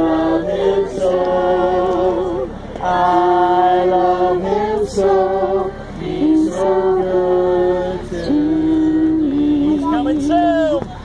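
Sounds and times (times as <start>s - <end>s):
group singing unaccompanied: 0.0s - 10.7s.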